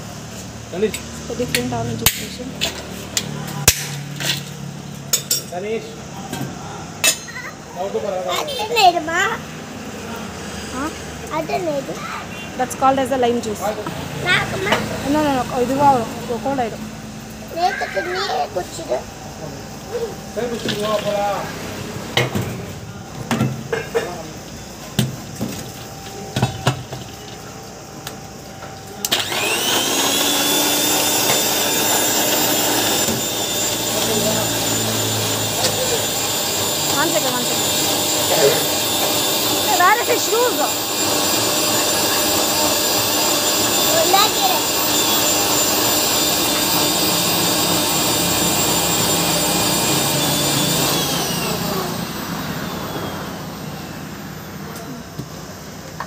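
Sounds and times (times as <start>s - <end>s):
mixer-grinder motor whine: 0.0s - 6.9s, 7.6s - 56.0s
blending ice: 7.1s - 22.7s, 23.3s - 55.2s.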